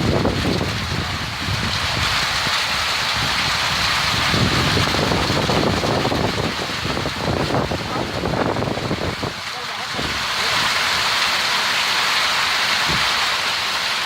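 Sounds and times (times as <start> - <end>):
wind buffeting microphone: 0.0 - 11.2, 12.8 - 13.2
torrential rain pouring: 0.0 - 14.0.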